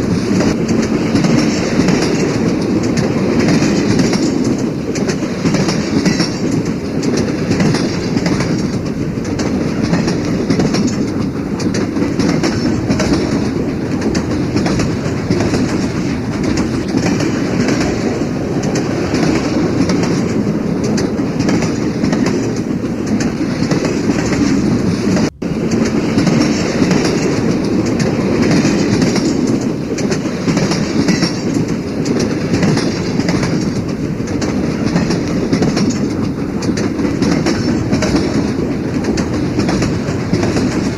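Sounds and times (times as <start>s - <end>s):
train wheels clacking over rail joints: 0.0s - 40.9s.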